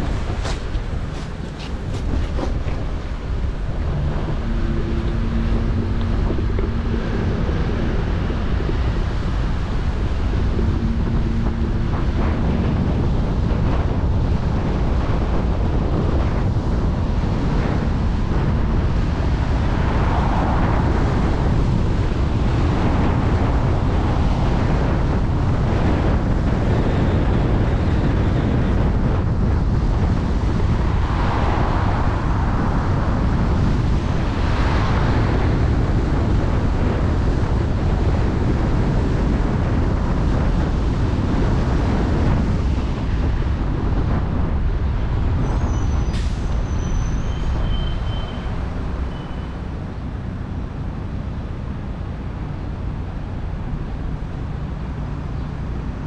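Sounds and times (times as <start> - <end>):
car road noise: 0.0 - 56.0
wind buffeting microphone: 0.0 - 56.0.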